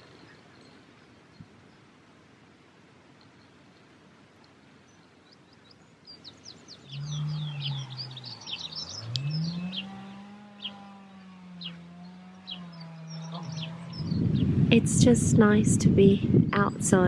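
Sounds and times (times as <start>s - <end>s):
low steady hum: 0.0s - 17.0s
songbirds chirping: 0.0s - 17.0s.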